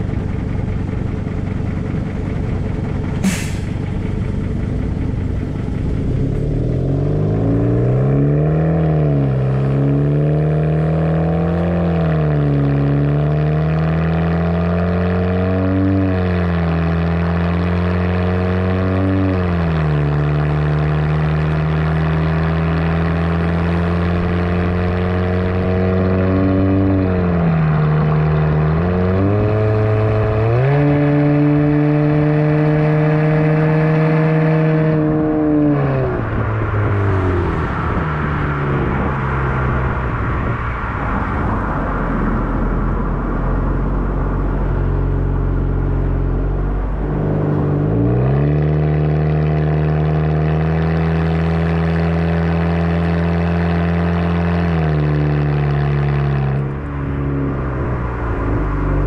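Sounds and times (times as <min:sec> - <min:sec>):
car engine exhaust drone: 0:00.0 - 0:59.0
tyre and road noise: 0:00.0 - 0:59.0.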